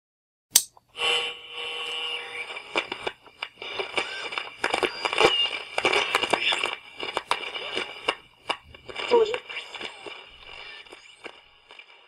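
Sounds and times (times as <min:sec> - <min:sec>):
radio static crackles: 0:01.0 - 0:12.0
whistling radio tones: 0:01.0 - 0:12.0.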